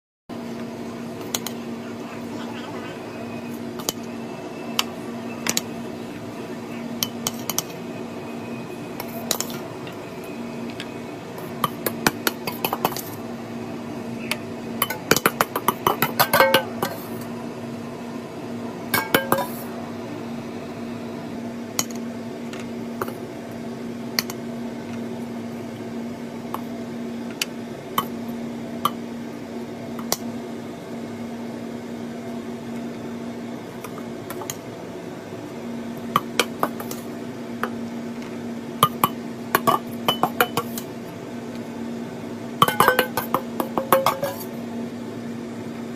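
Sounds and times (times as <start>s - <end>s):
steady low hum: 0.3s - 45.9s.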